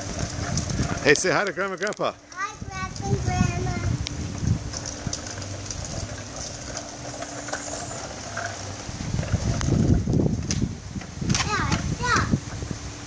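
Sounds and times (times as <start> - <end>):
bicycle rolling on concrete: 0.0 - 13.0.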